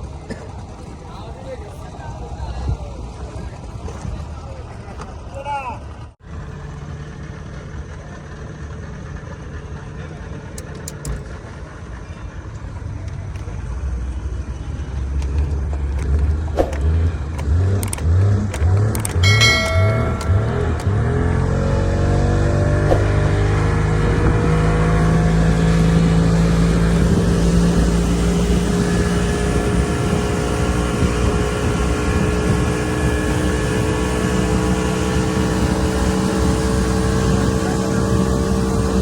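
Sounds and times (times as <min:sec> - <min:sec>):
speedboat engine running: 0:00.0 - 0:39.0.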